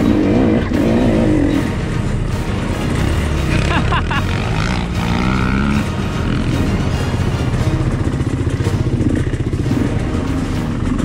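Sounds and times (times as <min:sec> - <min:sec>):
background music: 0:00.0 - 0:11.0
two-stroke dirt bike engine: 0:00.0 - 0:11.0.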